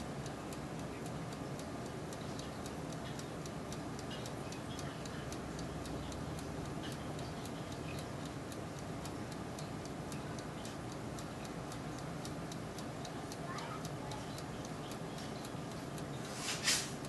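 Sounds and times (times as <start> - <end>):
oven fan rushing hot air: 0.0 - 17.0.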